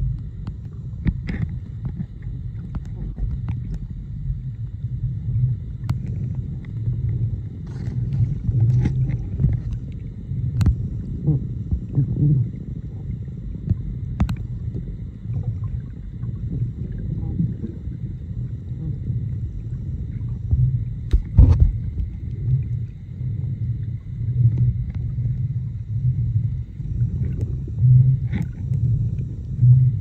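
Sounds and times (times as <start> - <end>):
underwater rumble: 0.0 - 30.0.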